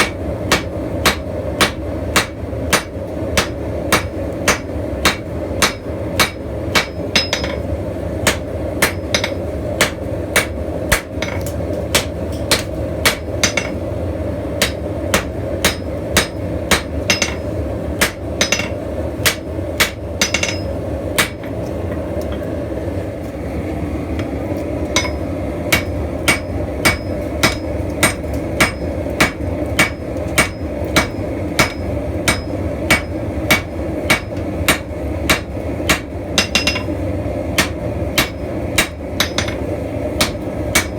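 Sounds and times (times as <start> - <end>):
hammer striking steel on anvil: 0.0 - 13.8, 14.6 - 21.6, 25.0 - 36.9, 37.6 - 40.9.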